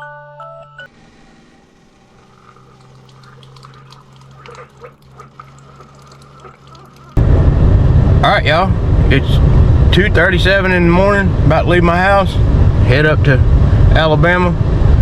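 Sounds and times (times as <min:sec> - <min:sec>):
steady low hum: 0:00.8 - 0:15.0.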